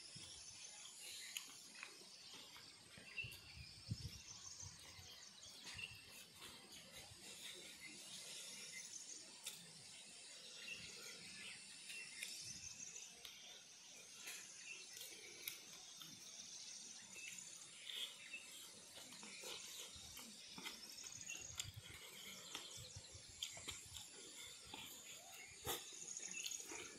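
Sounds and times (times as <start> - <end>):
bird chirps: 0.0 - 26.9
insect calls: 0.0 - 26.9.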